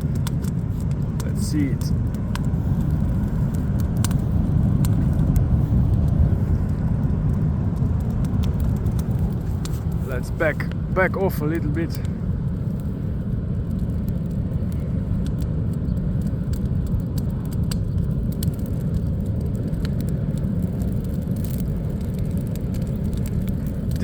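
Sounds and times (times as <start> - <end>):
coal fire crackling: 0.0 - 24.0
fan-blown fire rumbling: 0.0 - 24.0.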